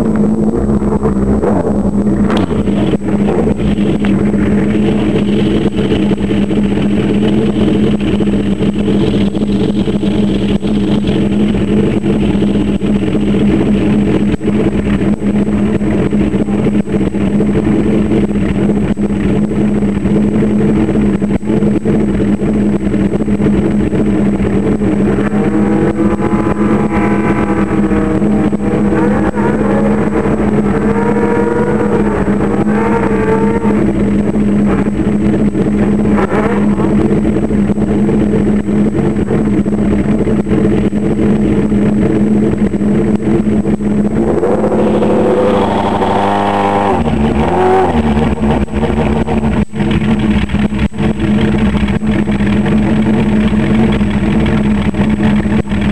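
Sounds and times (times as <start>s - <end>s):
sound wavering in pitch: 0.0s - 50.4s
motorcycle engine idling: 0.0s - 55.9s.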